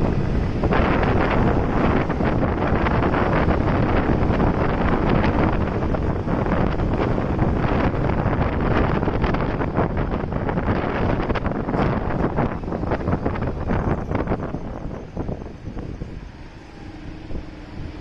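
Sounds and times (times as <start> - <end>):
road and traffic noise: 0.0 - 18.0
wind rushing over microphone: 0.0 - 18.0.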